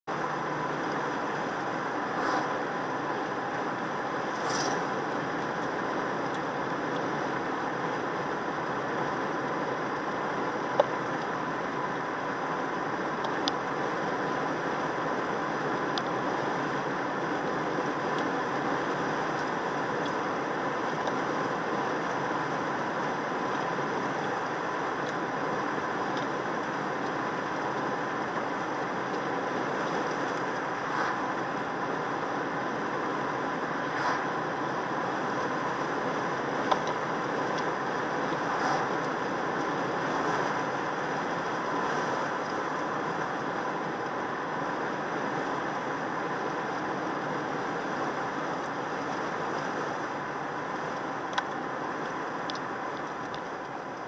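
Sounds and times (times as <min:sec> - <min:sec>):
road and tyre noise in car: 0:00.0 - 0:54.0.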